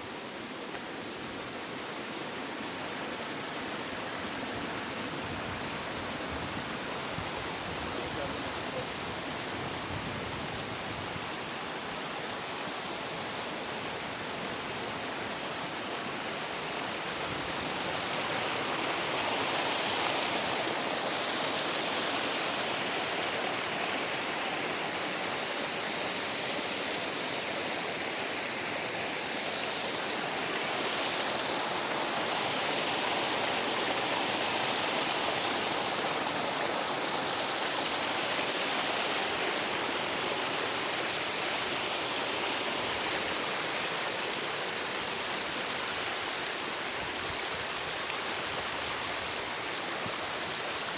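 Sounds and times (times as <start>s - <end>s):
waterfall rushing and splashing: 1.2s - 10.9s, 11.6s - 50.9s.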